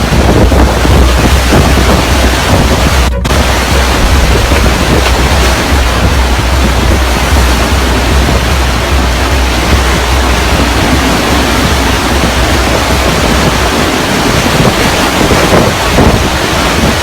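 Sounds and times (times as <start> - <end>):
wind and water rushing roar: 0.0 - 17.0
wind buffeting microphone: 0.0 - 17.0.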